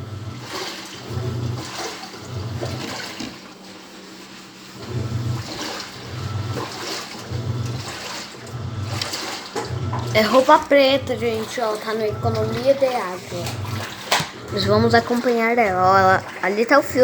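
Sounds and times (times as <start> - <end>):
washing machine motor humming: 0.0 - 17.0
water and clothes sloshing: 0.0 - 17.0.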